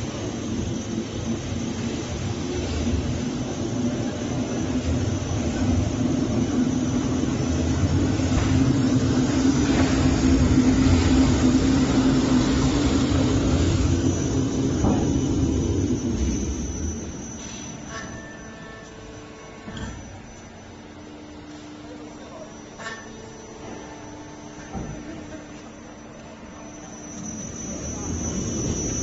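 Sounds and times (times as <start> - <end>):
lathe industrial hum and rumble: 0.0 - 29.0.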